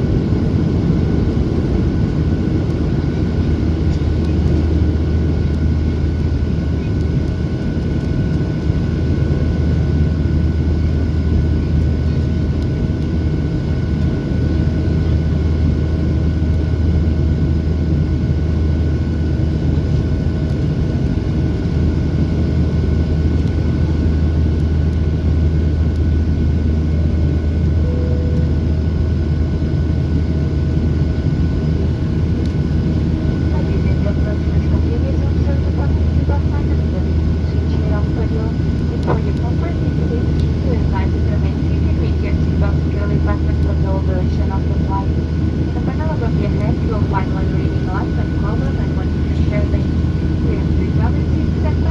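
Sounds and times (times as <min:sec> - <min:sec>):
airplane cabin drone: 0:00.0 - 0:51.9
faint engine whine: 0:00.0 - 0:51.9.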